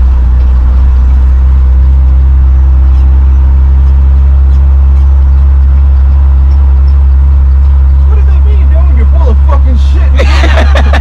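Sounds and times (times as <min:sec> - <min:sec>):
road noise inside cab: 0:00.0 - 0:11.0
truck engine drone: 0:00.0 - 0:11.0.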